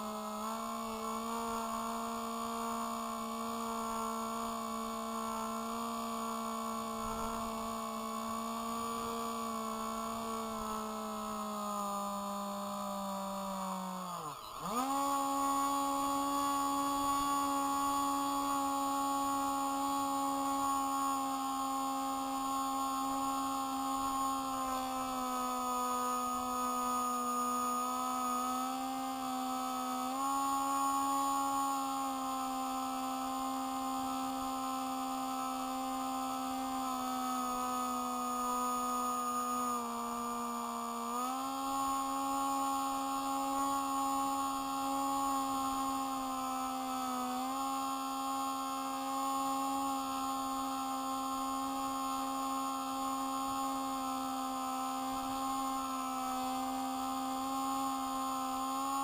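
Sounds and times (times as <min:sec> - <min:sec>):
model plane motor buzzing: 0:00.0 - 0:59.0.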